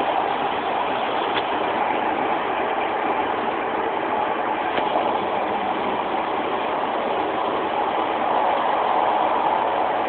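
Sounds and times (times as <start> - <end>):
train diesel engine rumble and hiss: 0.0 - 10.0.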